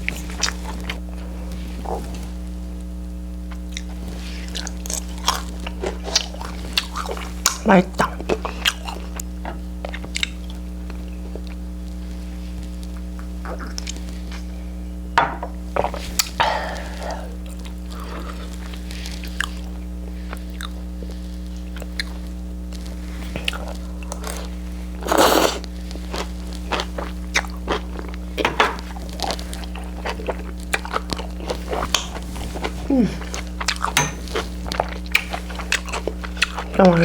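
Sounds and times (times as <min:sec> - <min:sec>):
chewing and crunching food: 0:00.0 - 0:14.7, 0:15.7 - 0:37.0
low mains hum: 0:00.0 - 0:37.0.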